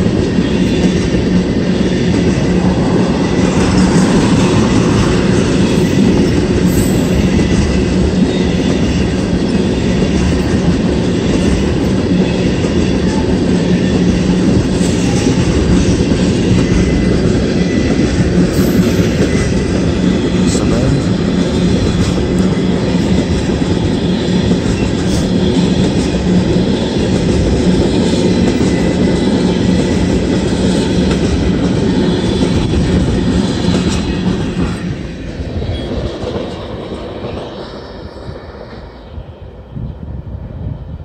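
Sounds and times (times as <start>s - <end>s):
freight train wheels on rail: 0.0s - 41.0s.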